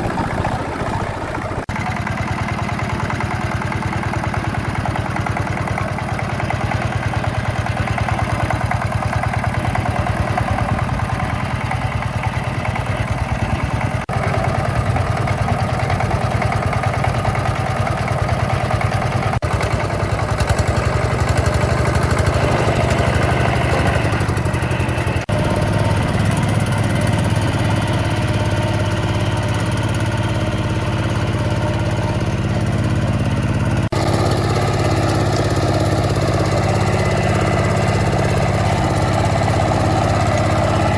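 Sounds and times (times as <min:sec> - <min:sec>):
tiller engine running: 0:00.0 - 0:40.9.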